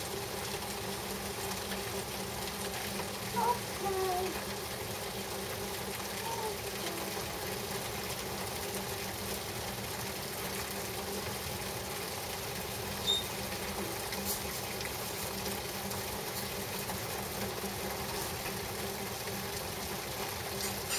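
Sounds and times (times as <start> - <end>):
heavy rain on grass and trees: 0.0 - 20.9.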